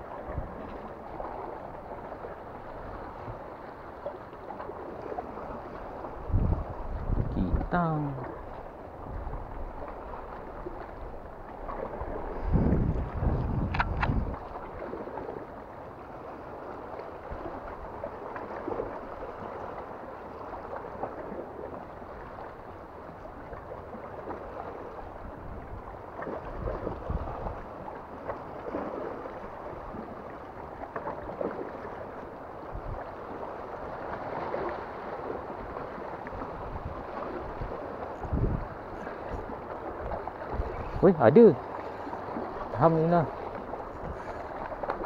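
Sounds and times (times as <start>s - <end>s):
sea water sloshing among rocks: 0.0s - 45.0s.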